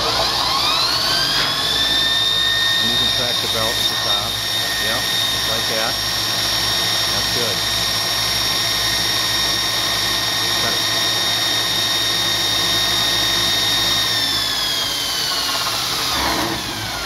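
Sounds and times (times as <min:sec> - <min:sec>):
belt grinder high whine: 0:00.0 - 0:17.0.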